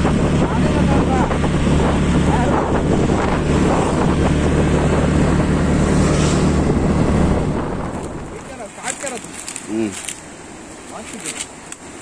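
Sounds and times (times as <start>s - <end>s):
vehicle engine droning: 0.0s - 10.8s
wind buffeting microphone: 0.0s - 10.8s.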